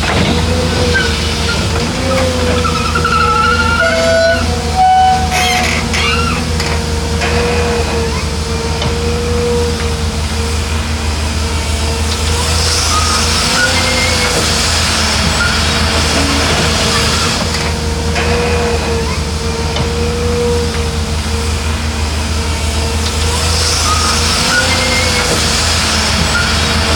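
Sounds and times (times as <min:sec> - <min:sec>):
diesel machinery engine: 0:00.0 - 0:26.9.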